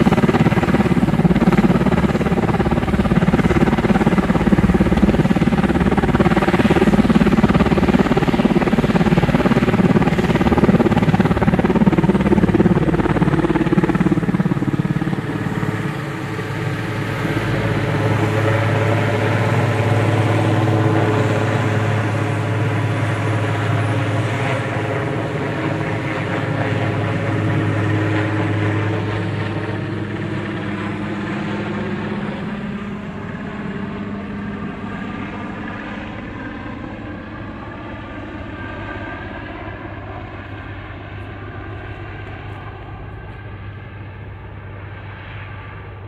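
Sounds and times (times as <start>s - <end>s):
helicopter rotor and engines: 0.0s - 46.0s.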